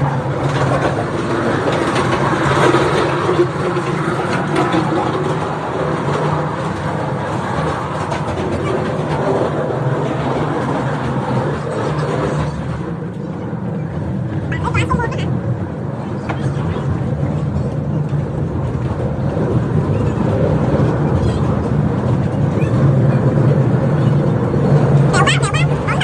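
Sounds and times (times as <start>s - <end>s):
train running on tracks: 0.0s - 26.0s.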